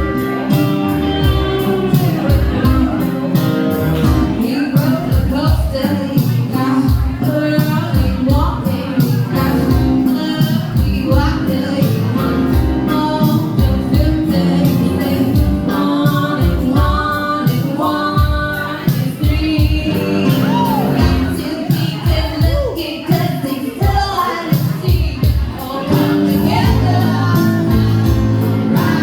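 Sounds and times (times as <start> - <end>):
band playing: 0.0 - 29.0
person singing: 0.0 - 29.0
steady drum beat: 0.0 - 29.0.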